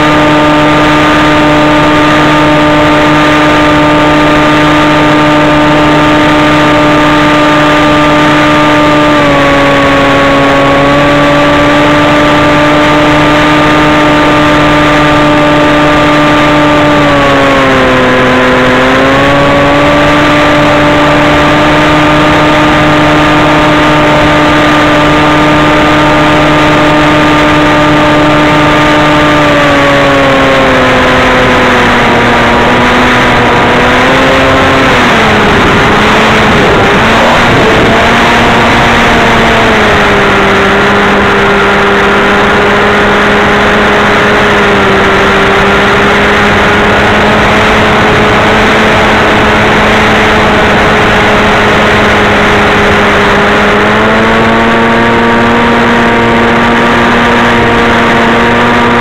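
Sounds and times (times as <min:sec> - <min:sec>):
motor and propeller drone: 0:00.0 - 0:59.0
rushing wind: 0:00.0 - 0:59.0.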